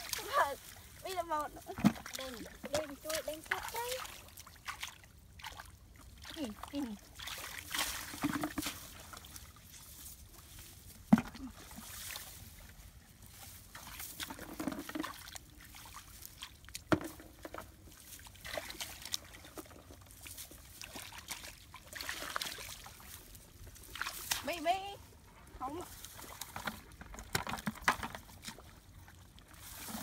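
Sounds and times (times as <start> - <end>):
muddy water sloshing and pouring: 0.0 - 30.0.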